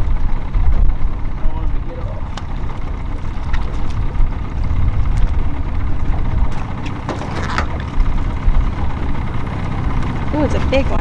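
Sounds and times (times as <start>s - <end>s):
steady low rumble: 0.0s - 11.0s
water splashing: 1.8s - 11.0s.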